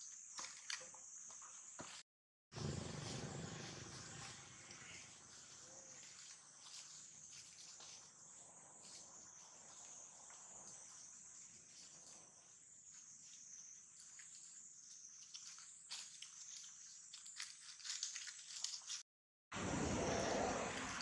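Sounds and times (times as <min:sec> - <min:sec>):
insects droning: 0:00.0 - 0:02.0, 0:02.6 - 0:18.9, 0:19.6 - 0:21.0.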